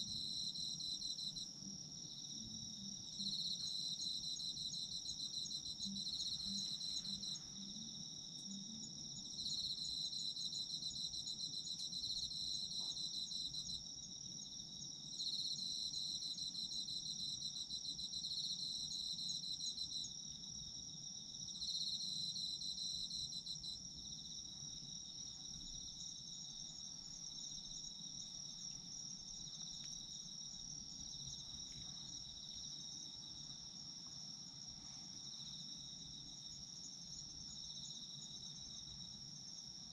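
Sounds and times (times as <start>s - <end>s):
insect chirping in rapid pulses: 0.0s - 39.9s
insect high steady trill: 0.0s - 39.9s.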